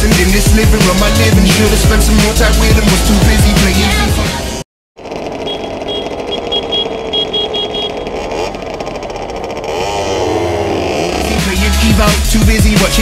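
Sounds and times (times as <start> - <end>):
moped engines running: 0.0 - 12.9.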